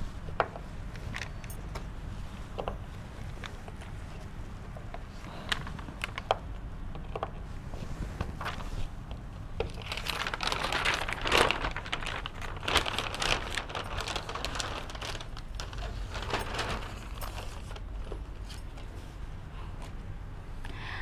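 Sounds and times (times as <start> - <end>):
chart paper rustling and crinkling: 0.0 - 6.5, 7.2 - 19.3.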